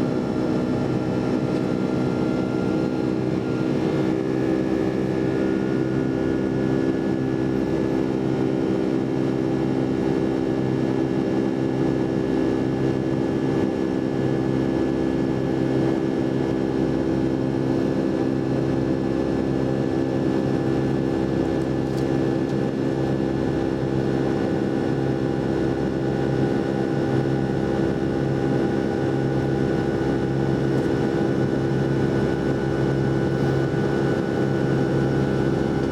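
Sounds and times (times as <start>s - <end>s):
jet engine cabin drone: 0.0s - 35.9s.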